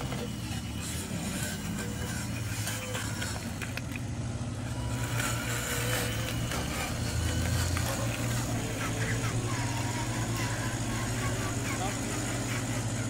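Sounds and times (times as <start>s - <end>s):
toy truck motor hum: 0.0s - 13.0s.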